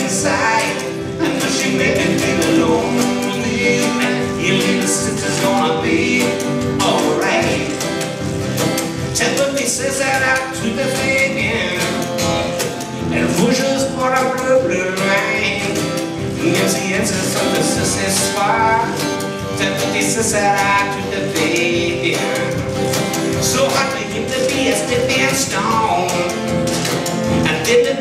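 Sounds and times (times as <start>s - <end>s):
acoustic guitars: 0.0s - 28.0s
bass drum: 0.0s - 28.0s
pitch-bending melody line: 0.0s - 28.0s
washboard percussion: 0.0s - 28.0s.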